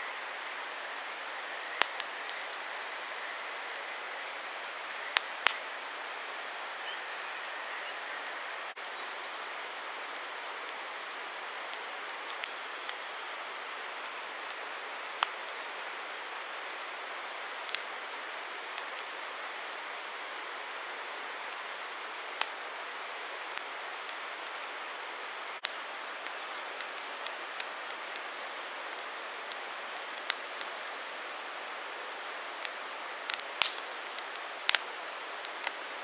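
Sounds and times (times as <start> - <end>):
campfire hissing and crackling: 0.0 - 36.0.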